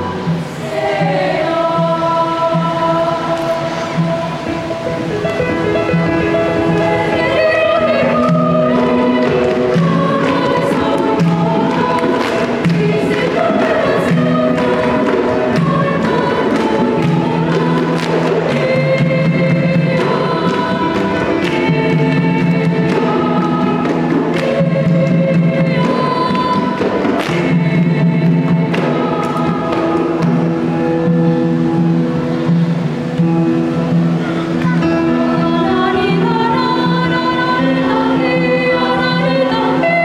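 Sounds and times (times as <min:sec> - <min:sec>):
children's choir singing a carol: 0:00.0 - 0:40.0.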